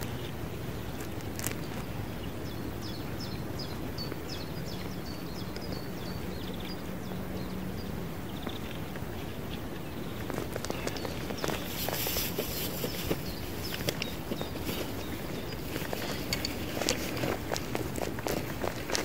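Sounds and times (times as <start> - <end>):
small bird singing: 0.0 - 17.6
outdoor background noise: 0.0 - 19.0.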